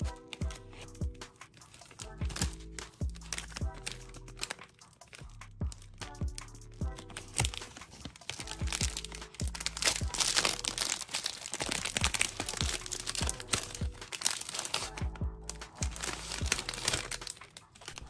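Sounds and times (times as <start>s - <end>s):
background music with steady beat: 0.0s - 18.0s
plastic wrapper crinkling: 0.0s - 18.0s.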